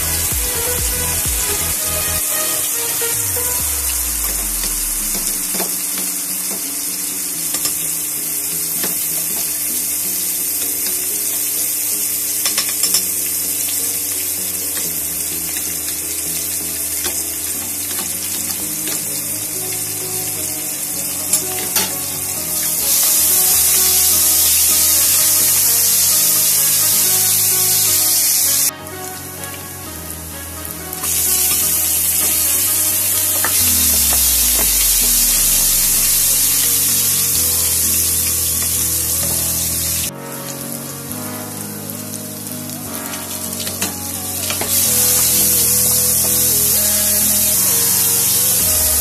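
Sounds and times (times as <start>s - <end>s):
onion sizzling in oil: 1.5s - 28.7s, 31.0s - 40.1s, 42.4s - 49.0s.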